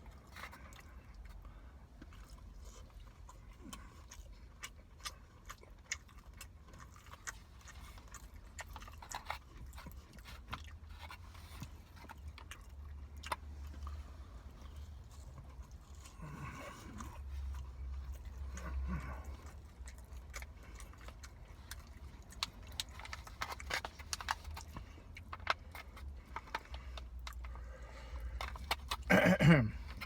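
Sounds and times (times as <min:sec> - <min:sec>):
low steady hum: 0:00.0 - 0:30.0
person chewing food: 0:00.0 - 0:30.0.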